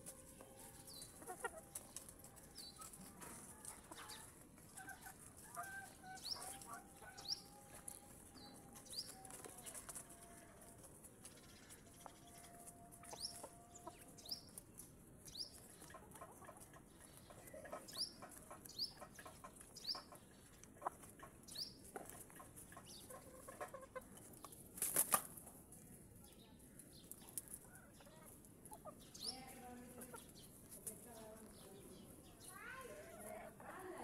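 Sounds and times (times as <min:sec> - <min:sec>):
hen clucking: 0:00.0 - 0:25.5, 0:26.8 - 0:32.0, 0:32.9 - 0:34.0
hens pecking and scratching: 0:00.0 - 0:34.0.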